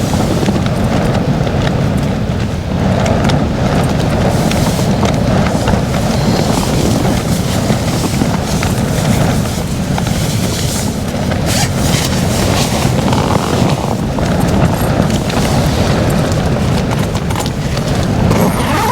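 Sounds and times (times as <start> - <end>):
storm wind buffeting a tent: 0.0 - 18.9
tent fabric rattling snaps: 2.9 - 18.9.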